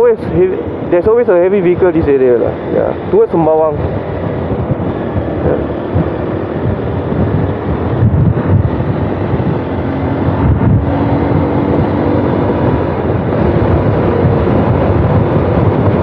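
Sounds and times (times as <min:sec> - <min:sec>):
wind noise on microphone: 0:00.0 - 0:16.0
motorcycle engine running: 0:01.9 - 0:16.0.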